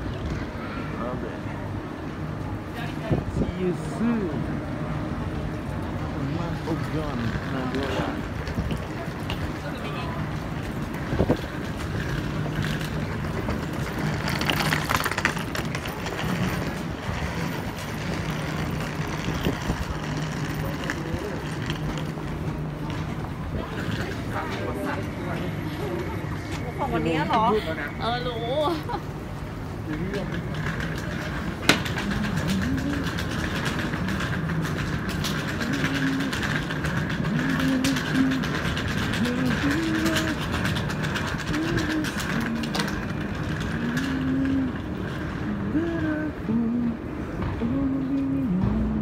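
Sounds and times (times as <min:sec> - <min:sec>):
street traffic: 0:00.0 - 0:49.0.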